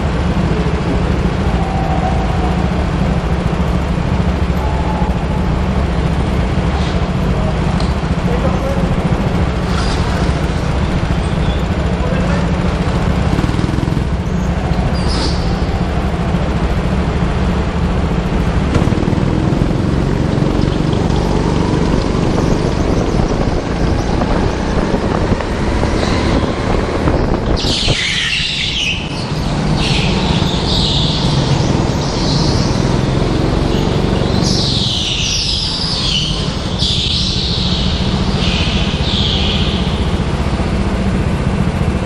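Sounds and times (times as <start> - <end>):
go-kart engine running: 0.0 - 42.0.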